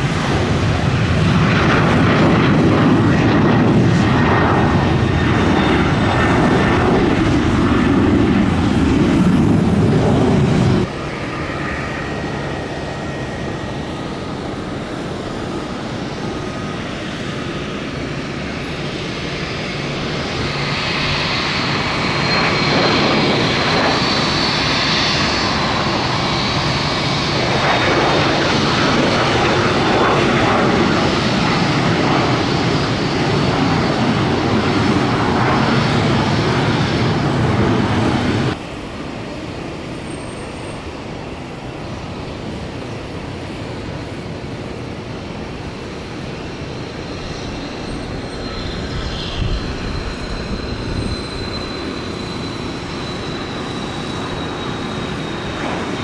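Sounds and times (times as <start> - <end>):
jet engine roar: 0.0 - 56.0
turbofan high whine: 0.0 - 56.0.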